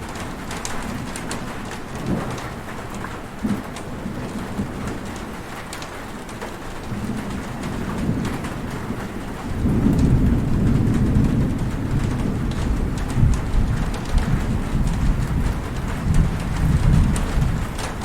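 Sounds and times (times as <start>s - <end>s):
heavy rain falling: 0.0s - 18.0s
raindrop ticks: 0.0s - 18.0s
thunder rumbling: 0.0s - 18.0s.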